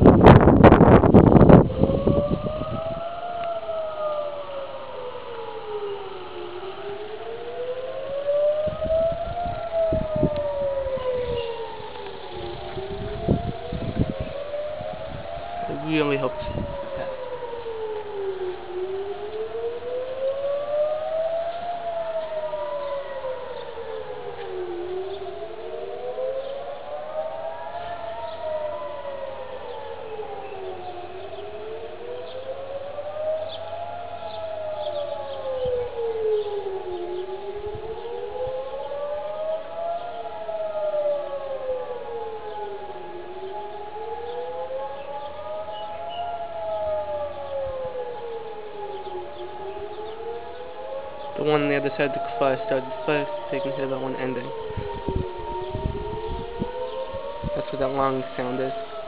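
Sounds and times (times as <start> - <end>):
sirens wailing up and down: 0.0 - 59.0
steady held siren tone: 0.0 - 59.0.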